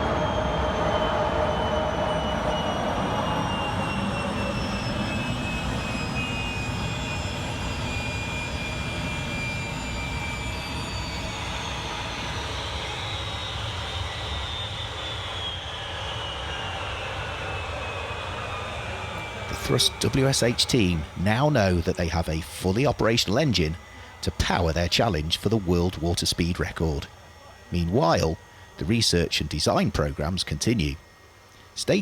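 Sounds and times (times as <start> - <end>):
jet engine winding down: 0.0 - 32.0.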